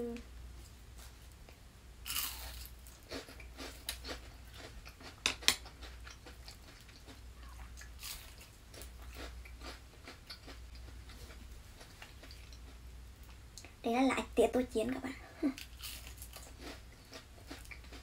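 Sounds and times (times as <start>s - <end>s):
chewing crunchy fried food: 1.0s - 13.7s, 15.6s - 18.0s.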